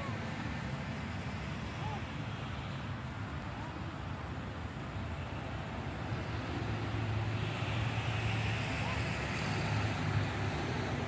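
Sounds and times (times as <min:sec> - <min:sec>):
outdoor background noise: 0:00.0 - 0:11.0
vehicle engine hum: 0:00.0 - 0:11.0.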